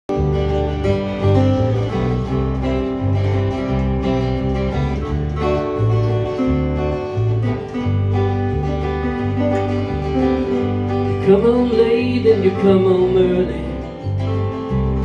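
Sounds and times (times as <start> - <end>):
guitar trio playing: 0.1 - 15.0
strummed chords: 0.1 - 15.0.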